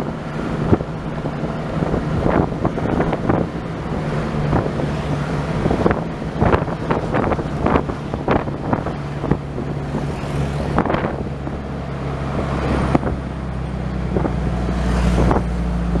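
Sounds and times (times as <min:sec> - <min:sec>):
motor vehicle running: 0:00.0 - 0:16.0
wind gusting on microphone: 0:00.0 - 0:16.0.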